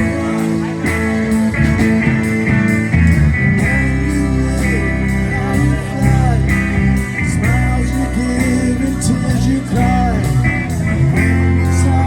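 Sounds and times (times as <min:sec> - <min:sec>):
bass guitar: 0:00.0 - 0:12.0
drums with cymbals: 0:00.0 - 0:12.0
gliding electric guitar notes: 0:00.0 - 0:12.0.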